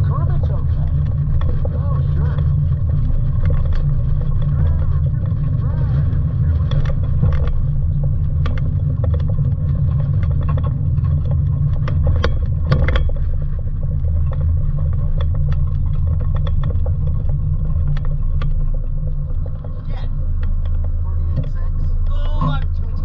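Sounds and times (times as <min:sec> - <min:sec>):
car engine at low revs: 0:00.0 - 0:23.0
light clicks and rattles: 0:00.0 - 0:23.0.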